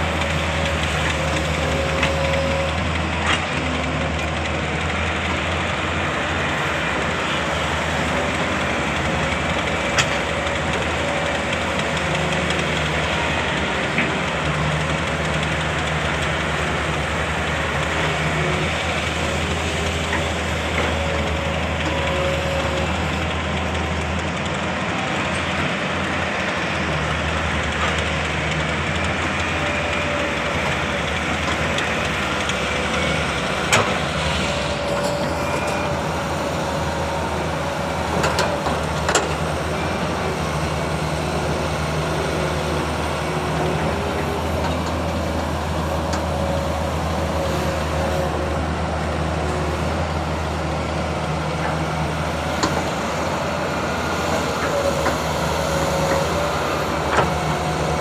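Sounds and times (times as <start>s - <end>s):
diesel excavator engine: 0.0s - 58.0s.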